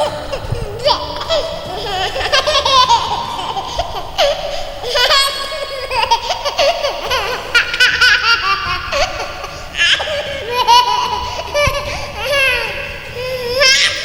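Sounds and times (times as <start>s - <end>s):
children laughing and giggling: 0.0s - 14.0s.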